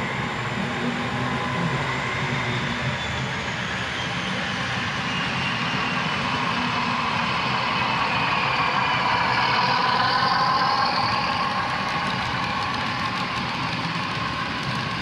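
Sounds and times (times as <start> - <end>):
freight cars rolling on track: 0.0 - 15.0.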